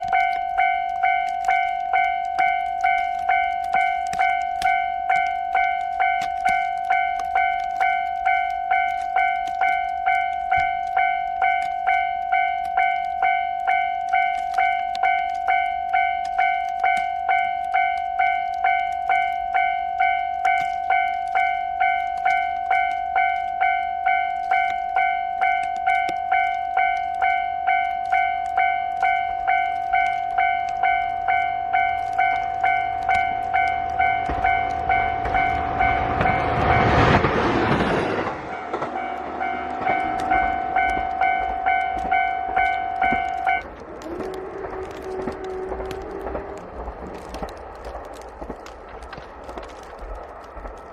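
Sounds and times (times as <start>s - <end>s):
level-crossing warning bell: 0.0s - 50.9s.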